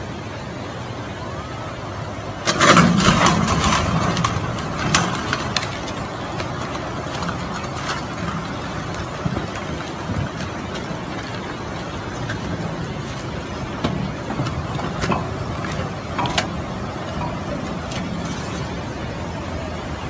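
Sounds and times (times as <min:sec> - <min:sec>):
floodwater rushing: 0:00.0 - 0:20.0
wooden bridge cracking and knocking: 0:02.4 - 0:19.2.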